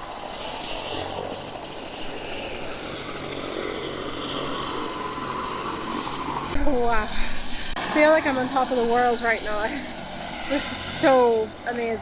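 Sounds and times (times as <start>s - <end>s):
helicopter turbine and rotor: 0.0s - 12.0s.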